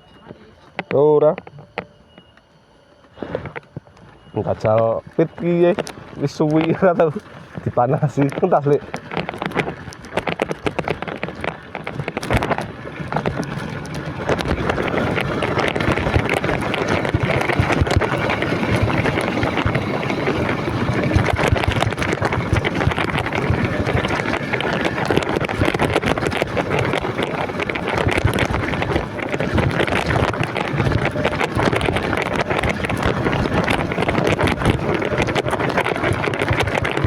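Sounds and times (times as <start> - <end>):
wind buffeting microphone: 4.4 - 37.0
motorcycle engine running: 4.6 - 37.0
rattle and clatter: 4.6 - 37.0.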